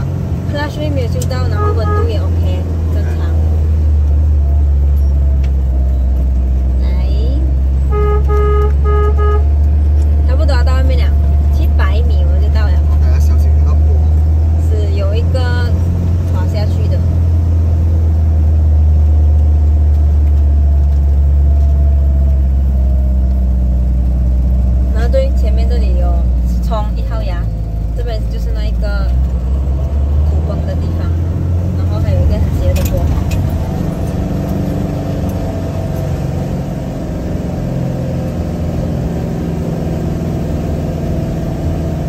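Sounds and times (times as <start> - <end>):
vehicle engine and road rumble: 0.0 - 42.0.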